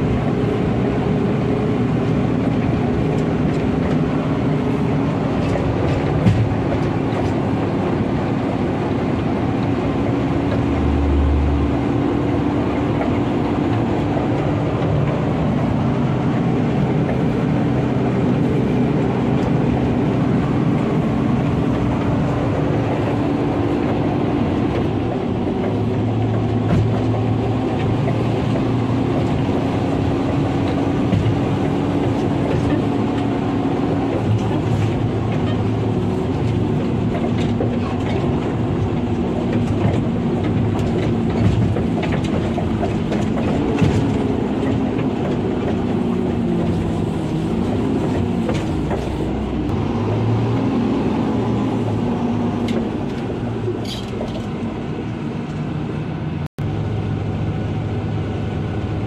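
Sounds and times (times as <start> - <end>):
cab rattling over rough road: 0.0 - 59.0
diesel truck engine running: 0.0 - 59.0.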